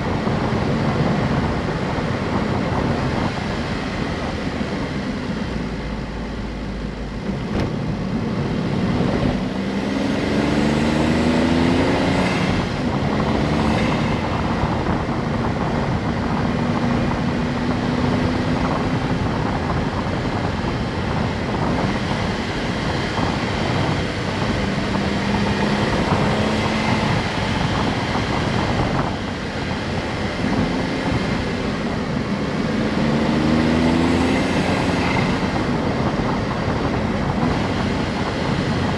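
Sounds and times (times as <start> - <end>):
car engine accelerating: 0.0 - 38.9
road and wind noise: 0.0 - 38.9.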